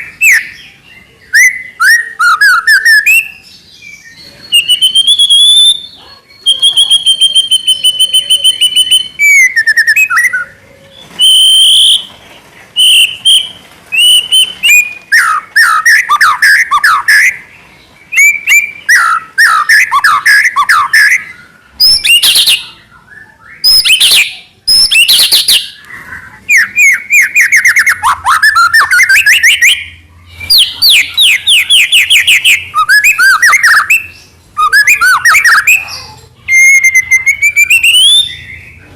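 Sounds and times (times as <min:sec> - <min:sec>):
bird singing whistles and trills: 0:00.0 - 0:12.2, 0:12.8 - 0:38.9.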